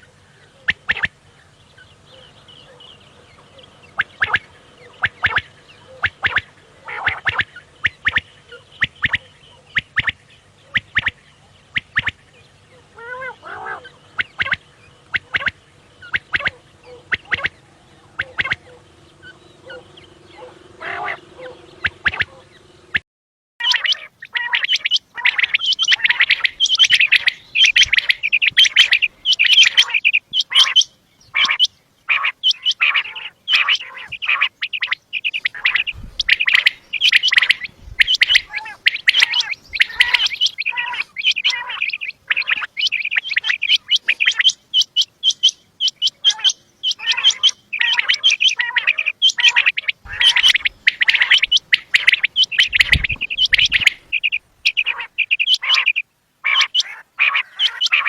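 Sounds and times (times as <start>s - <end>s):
quail chirping: 0.0s - 23.0s, 23.6s - 58.0s.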